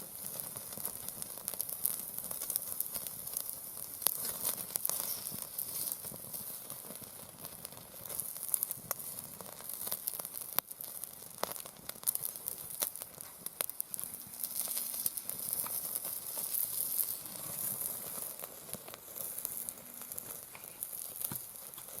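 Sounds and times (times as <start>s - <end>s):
meat sizzling on a grill: 0.0s - 22.0s
wood fire popping and crackling: 0.0s - 22.0s.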